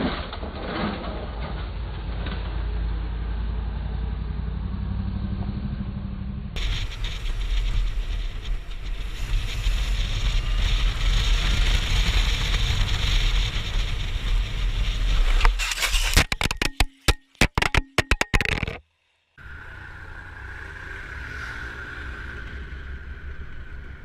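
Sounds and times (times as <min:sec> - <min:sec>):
wind and road noise rushing: 0:01.3 - 0:16.6, 0:19.4 - 0:24.0.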